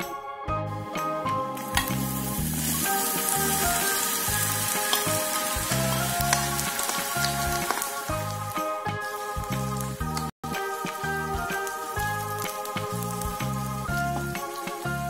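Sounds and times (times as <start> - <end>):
background music: 0.0 - 15.0
food sizzling in hot oil: 1.6 - 15.0.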